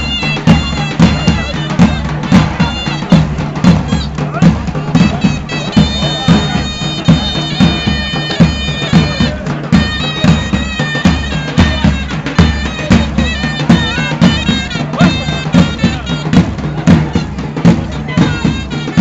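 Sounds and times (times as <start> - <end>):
bass drum steady beat: 0.0 - 19.0
reed pipe melody: 0.0 - 19.0.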